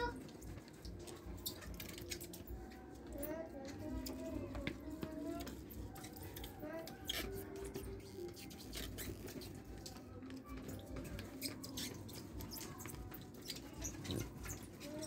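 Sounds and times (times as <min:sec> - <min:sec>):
sticky mixture squishing: 0:00.0 - 0:15.0.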